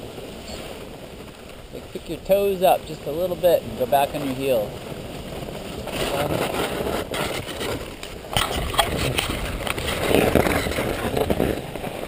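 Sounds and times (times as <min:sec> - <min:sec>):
snowboards scraping over snow: 0:00.0 - 0:12.0.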